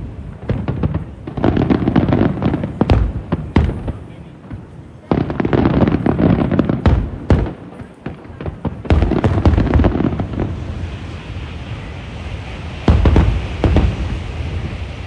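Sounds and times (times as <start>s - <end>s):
fireworks bangs and crackles: 0.0s - 15.0s
fireworks rumbling: 0.0s - 15.0s.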